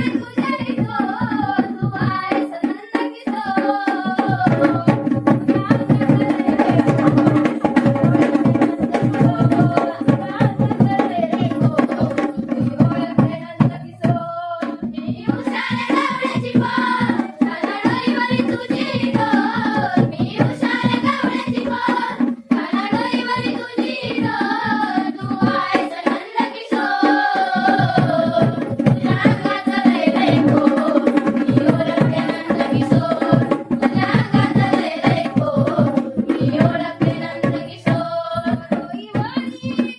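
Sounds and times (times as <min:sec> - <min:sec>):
hand drum rhythm: 0:00.0 - 0:39.9
person singing folk song: 0:00.0 - 0:39.9.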